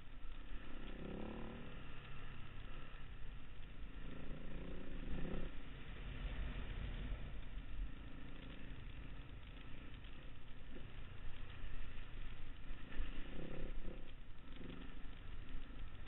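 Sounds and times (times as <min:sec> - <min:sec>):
motorcycle engine: 0:00.0 - 0:16.0.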